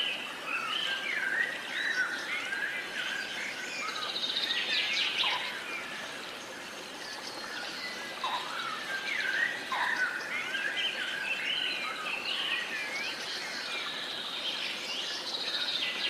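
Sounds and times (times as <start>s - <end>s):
songbirds chirping and singing: 0.0s - 16.0s
steady background hiss: 0.0s - 16.0s.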